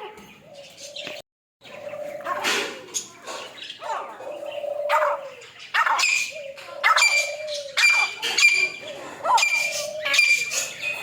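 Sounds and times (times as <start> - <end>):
caged birds calling: 0.0 - 11.0.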